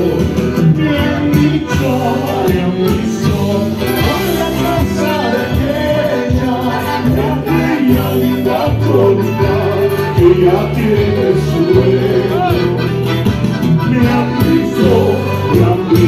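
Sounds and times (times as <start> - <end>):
live band with singer and guitars: 0.0 - 16.0.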